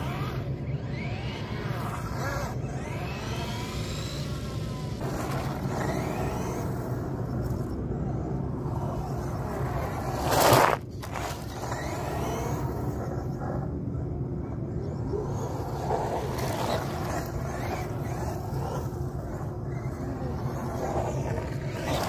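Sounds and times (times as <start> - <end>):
rc buggy low rumble: 0.0 - 22.0
rc buggy rushing past: 0.0 - 22.0.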